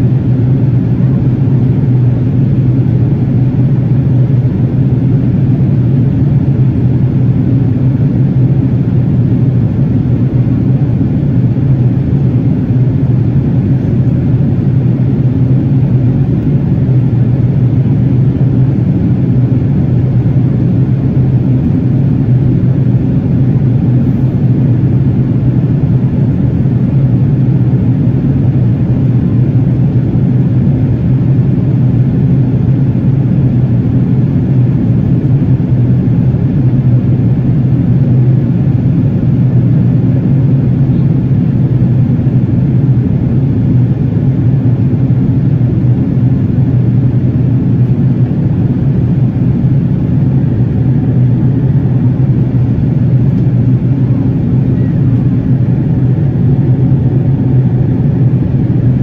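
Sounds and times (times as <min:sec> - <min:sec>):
jet airliner cabin drone: 0:00.0 - 0:59.0.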